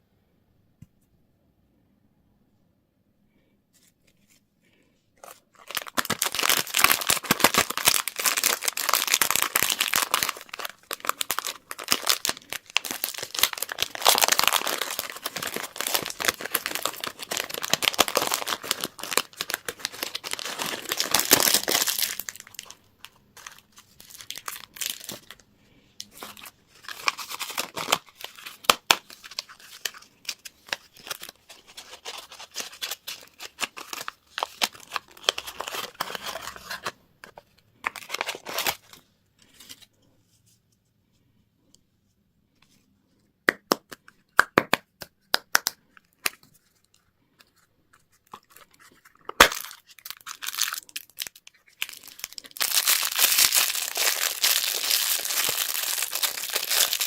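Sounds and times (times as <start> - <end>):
candy wrapper crinkling: 5.2 - 39.9, 45.5 - 57.0.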